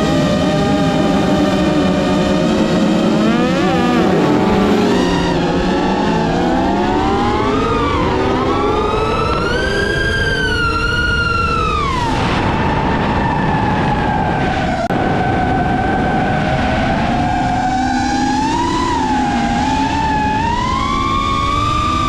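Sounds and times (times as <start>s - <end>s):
high-revving engines whining: 0.0s - 22.0s.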